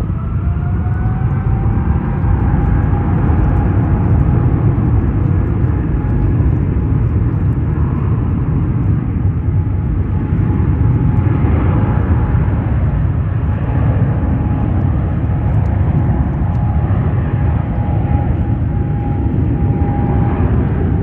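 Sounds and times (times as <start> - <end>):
faint whine: 0.0 - 21.0
jet engines rumbling: 0.0 - 21.0.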